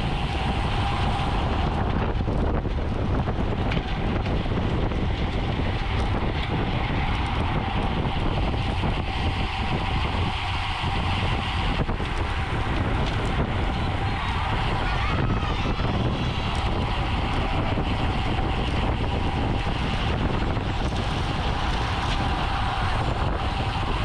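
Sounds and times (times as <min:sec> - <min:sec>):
bicycle tyre road noise: 0:00.0 - 0:24.0
wind on microphone: 0:00.0 - 0:24.0.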